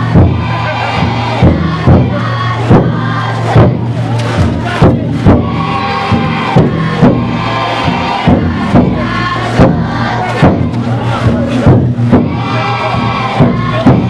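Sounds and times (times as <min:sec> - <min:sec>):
crowd chanting and shouting: 0:00.0 - 0:14.0
taiko drum strikes: 0:00.0 - 0:14.0.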